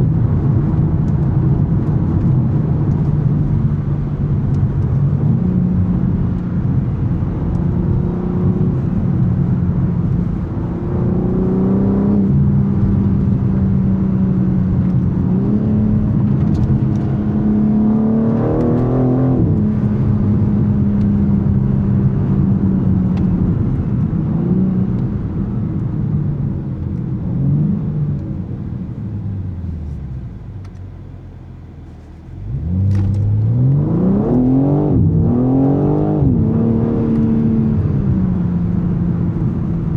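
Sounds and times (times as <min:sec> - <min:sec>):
car engine revving under load: 0:00.0 - 0:39.9.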